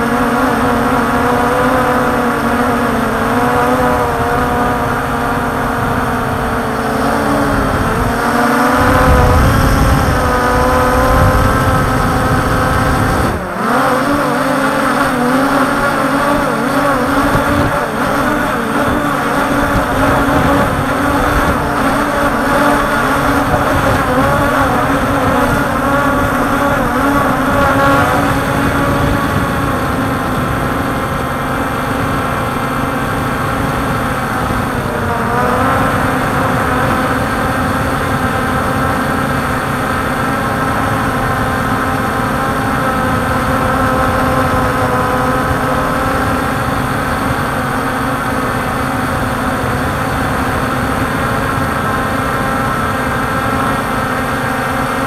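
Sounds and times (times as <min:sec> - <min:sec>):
drone propellers whining: 0:00.0 - 0:55.0.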